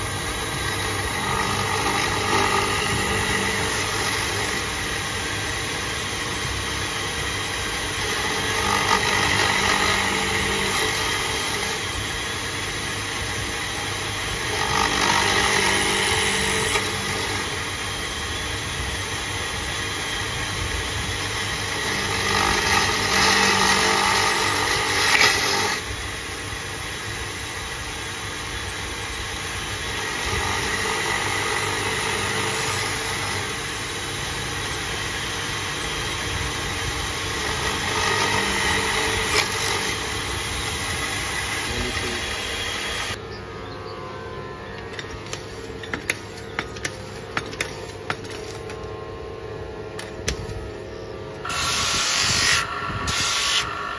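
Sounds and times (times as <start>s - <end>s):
drill bit cutting wood: 0.0s - 43.2s, 51.4s - 53.9s
drill press motor running: 0.0s - 53.9s.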